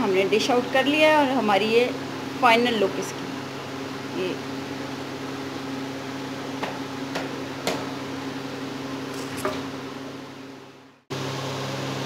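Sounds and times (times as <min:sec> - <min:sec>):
kitchen appliance humming: 0:00.0 - 0:12.0.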